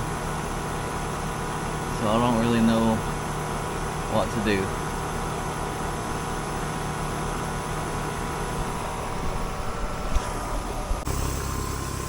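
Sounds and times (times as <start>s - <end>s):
air-conditioning units humming: 0.0s - 12.0s.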